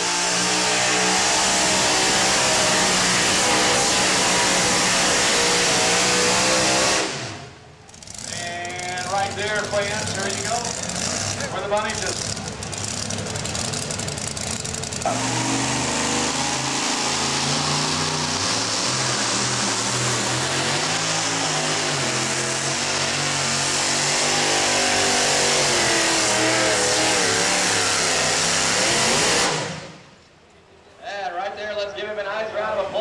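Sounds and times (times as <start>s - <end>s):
truck engine at full throttle: 0.0s - 30.2s.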